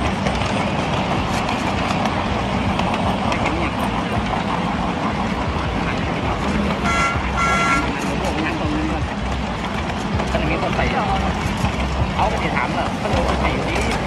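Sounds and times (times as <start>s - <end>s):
miniature train rumbling on track: 0.0s - 14.0s.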